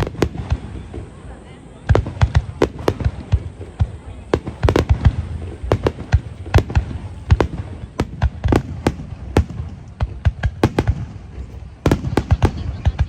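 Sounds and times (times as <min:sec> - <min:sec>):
firework bangs: 0:00.0 - 0:13.0.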